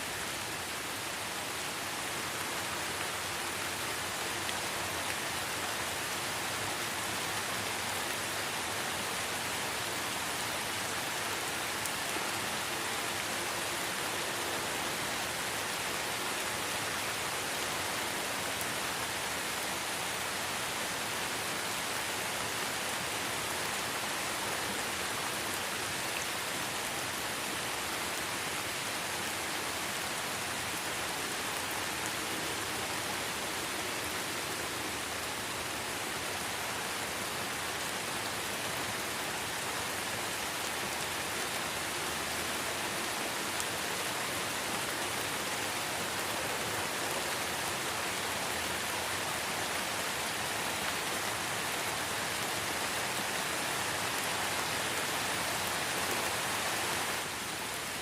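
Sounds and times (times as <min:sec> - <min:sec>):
light rain in forest: 0:00.0 - 0:58.0.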